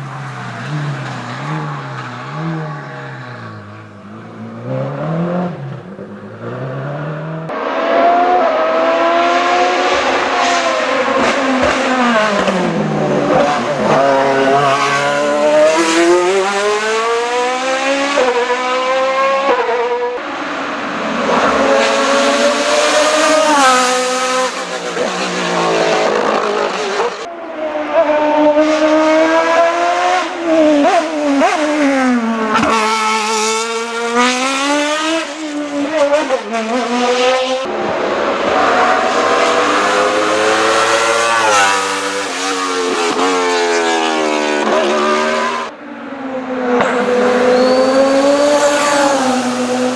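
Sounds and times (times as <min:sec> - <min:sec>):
race car engine revving: 0:00.0 - 0:45.7, 0:46.6 - 0:49.9.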